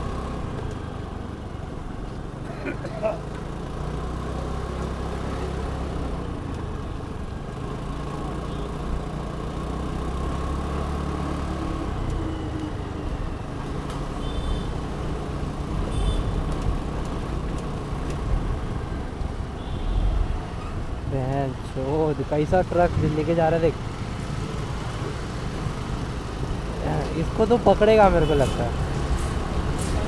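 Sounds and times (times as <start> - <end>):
road traffic noise: 0.0 - 30.0
scooter engine hum: 3.0 - 30.0.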